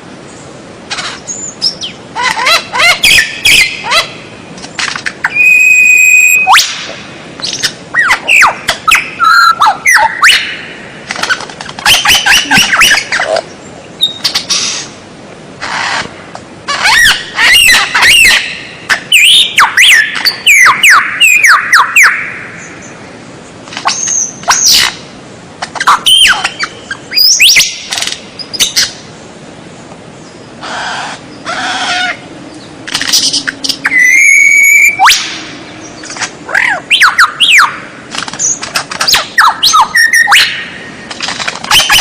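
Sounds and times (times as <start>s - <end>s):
songbird singing: 0.0s - 42.0s.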